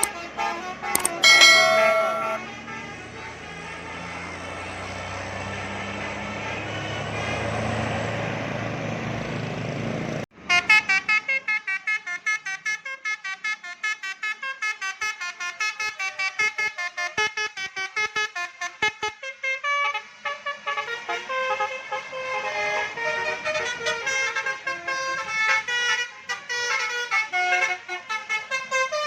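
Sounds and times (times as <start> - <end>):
bus horn playing melody: 0.0 - 7.5, 10.4 - 29.0
vehicle engine and road noise: 0.0 - 29.0.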